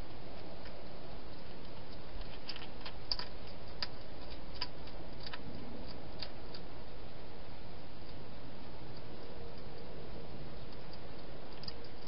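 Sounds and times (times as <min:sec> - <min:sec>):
hedgehog feeding clicks: 0:00.0 - 0:12.0.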